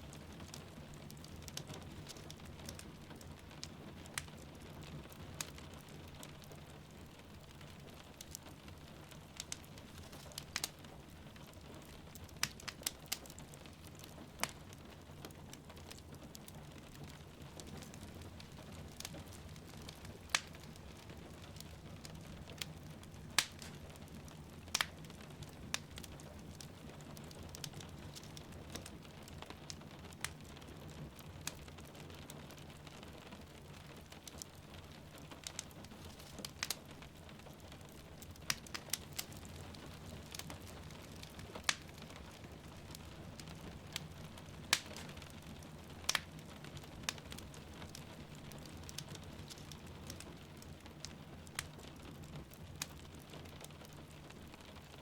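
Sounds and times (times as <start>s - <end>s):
fire popping: 0.0s - 55.0s
rain pattering: 0.0s - 55.0s
wood fire crackling: 0.0s - 55.0s.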